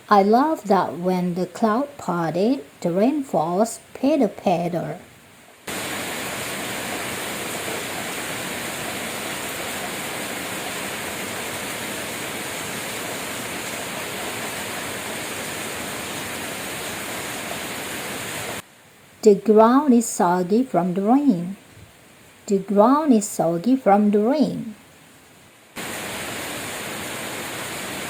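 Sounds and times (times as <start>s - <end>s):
rain falling steadily: 0.0s - 28.0s.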